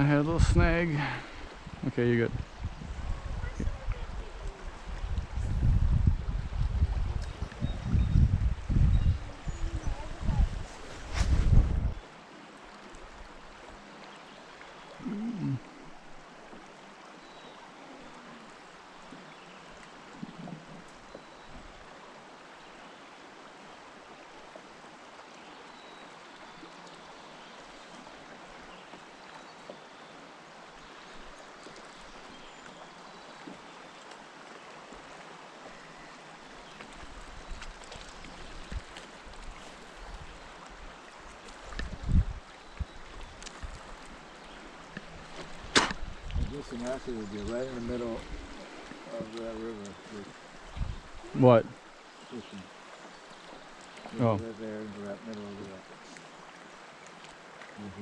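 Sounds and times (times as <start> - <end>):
river water rushing around boat: 0.0 - 58.0.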